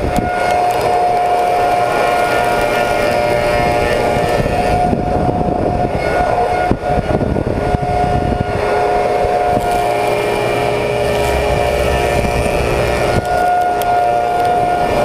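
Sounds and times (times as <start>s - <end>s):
machine whine: 0.0s - 15.0s
wood cutting noise: 0.0s - 15.0s.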